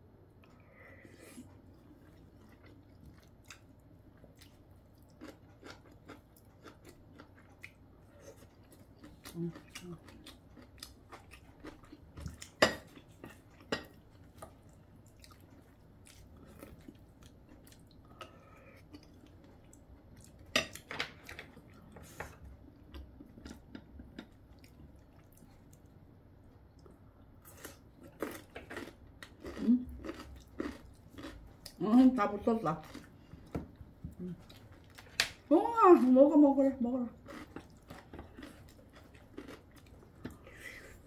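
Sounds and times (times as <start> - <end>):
chewing: 0.4 - 26.0, 26.7 - 31.8, 37.2 - 41.0.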